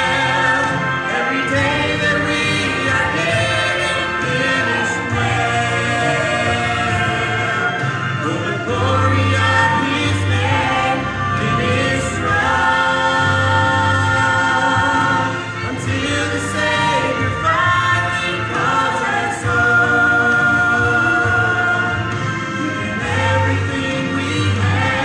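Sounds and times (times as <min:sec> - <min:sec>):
vocal trio singing gospel: 0:00.0 - 0:25.0.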